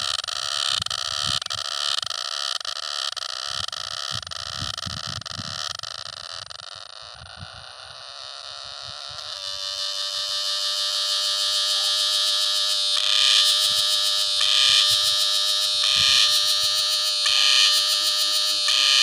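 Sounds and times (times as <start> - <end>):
cicada buzzing: 0.0 - 19.0.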